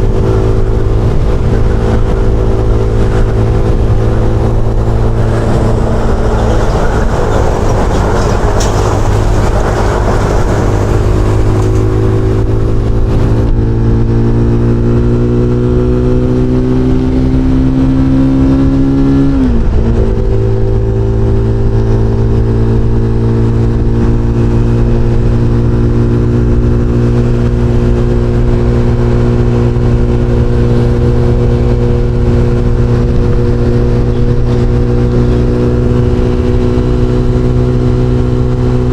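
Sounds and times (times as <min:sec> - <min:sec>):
motorcycle engine and exhaust: 0:00.0 - 0:38.9
wind rush: 0:00.0 - 0:38.9.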